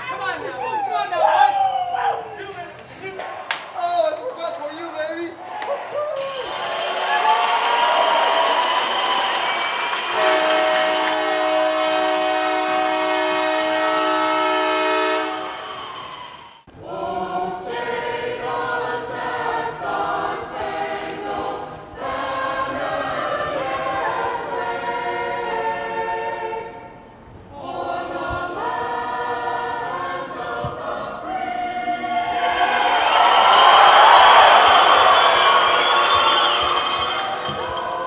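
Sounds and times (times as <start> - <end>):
choir singing: 6.4 - 38.0.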